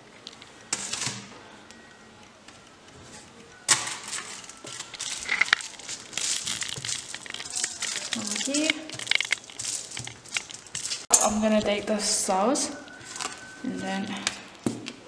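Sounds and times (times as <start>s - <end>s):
aluminium foil crinkling: 0.0s - 1.3s, 3.1s - 14.6s.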